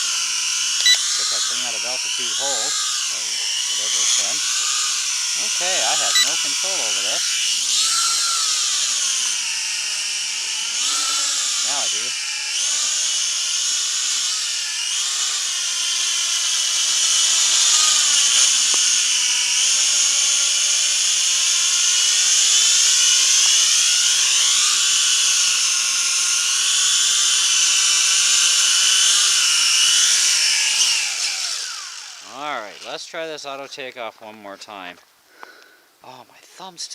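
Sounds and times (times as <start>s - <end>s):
quadcopter propellers whining: 0.0s - 33.1s.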